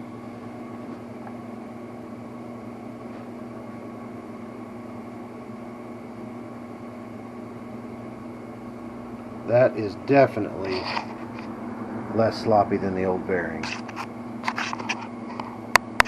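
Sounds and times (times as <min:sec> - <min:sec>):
steady hum with hiss: 0:00.0 - 0:16.0.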